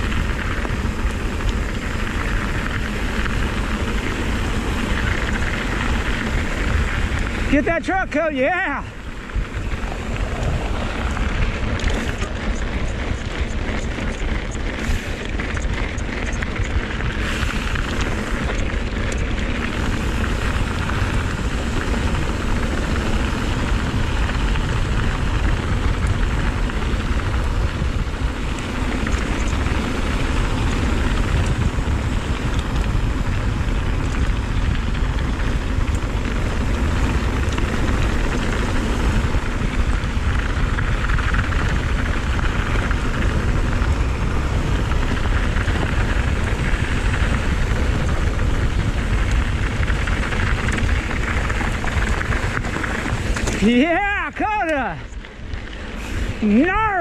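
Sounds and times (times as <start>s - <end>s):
bike tyres rolling on dirt: 0.0s - 57.0s
wind rush over microphone: 0.0s - 57.0s.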